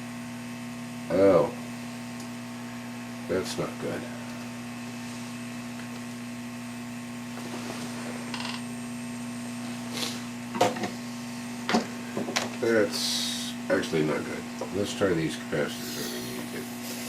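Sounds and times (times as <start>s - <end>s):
hot-air station blowing: 0.0s - 17.0s
low mains hum: 0.0s - 17.0s.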